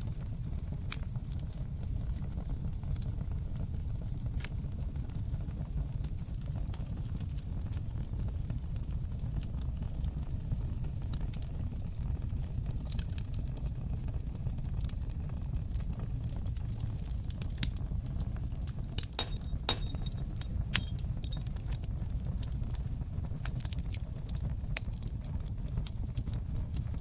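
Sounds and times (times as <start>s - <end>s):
fire pops and snaps: 0.0s - 27.0s
low rumble of flames: 0.0s - 27.0s.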